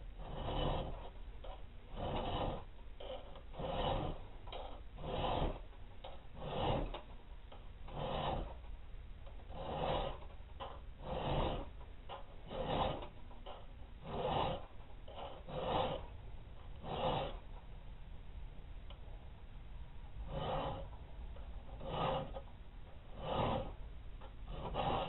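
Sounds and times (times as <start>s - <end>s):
file rasping on steel: 0.0s - 17.7s, 20.0s - 25.0s.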